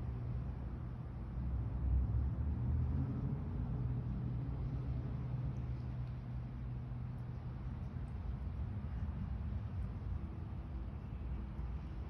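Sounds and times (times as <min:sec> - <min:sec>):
rumbling background noise: 0:00.0 - 0:12.0
steady low hum: 0:00.0 - 0:12.0.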